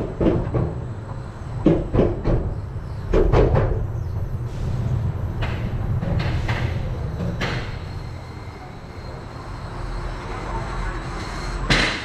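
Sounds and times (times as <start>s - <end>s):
coaster wheels rumbling on track: 0.0s - 12.0s.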